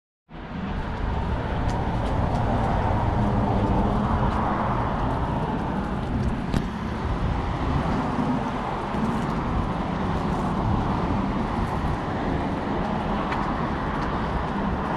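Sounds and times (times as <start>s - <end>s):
road traffic rumble: 0.3s - 14.9s.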